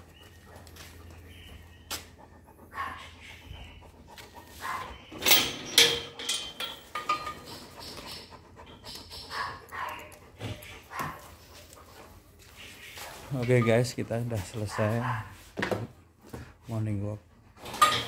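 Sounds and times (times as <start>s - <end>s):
dog panting: 0.0s - 5.2s, 6.6s - 17.9s.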